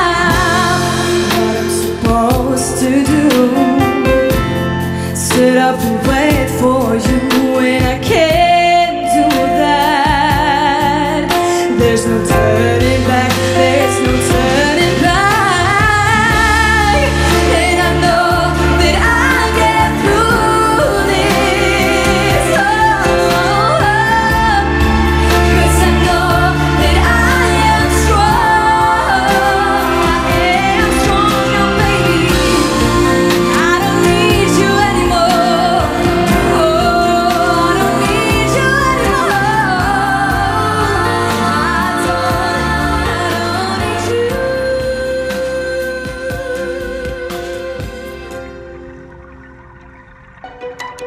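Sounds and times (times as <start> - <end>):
pop music with singing: 0.0 - 49.7
song with sung melody and bass: 0.0 - 51.0.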